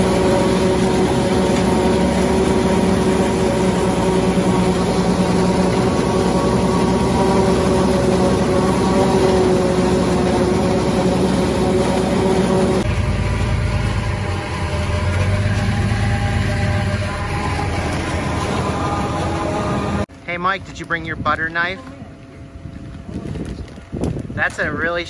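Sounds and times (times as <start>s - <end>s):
forage harvester machine drone: 0.0s - 25.0s.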